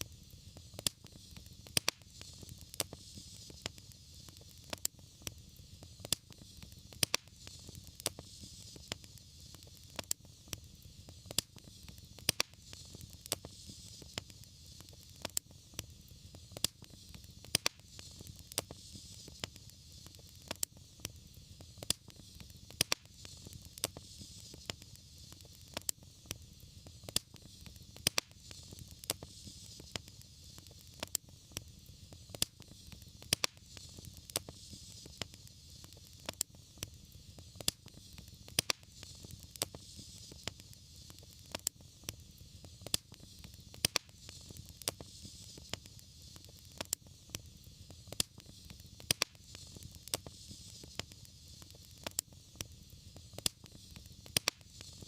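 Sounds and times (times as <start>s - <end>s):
fire crackling in fireplace: 0.0s - 55.0s
fire pops and snaps: 0.0s - 55.0s.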